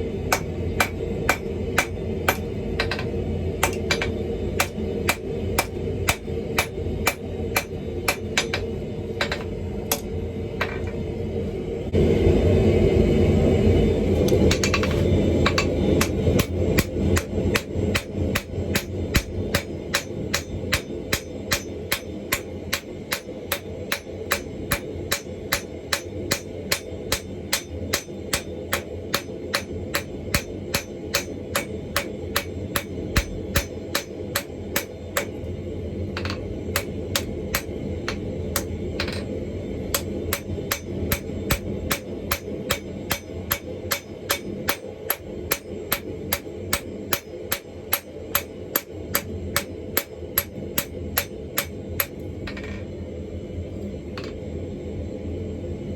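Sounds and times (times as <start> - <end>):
hammer striking hot steel: 0.0 - 11.0, 14.3 - 35.5, 36.1 - 52.8
low rumble: 0.0 - 47.6.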